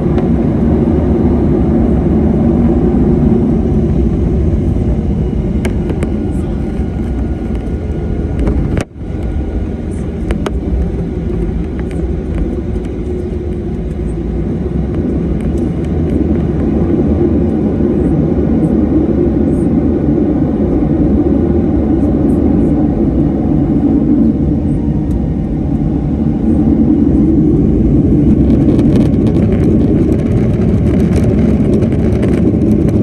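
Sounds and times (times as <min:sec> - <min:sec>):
jet engines rumbling in cabin: 0:00.0 - 0:33.0.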